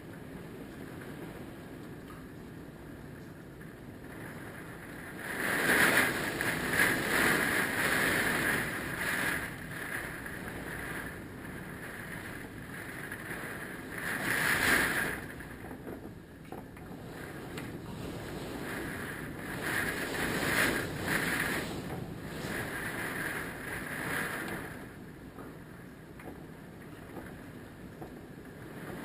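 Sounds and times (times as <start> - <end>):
strong wind gusts: 0.0 - 29.0.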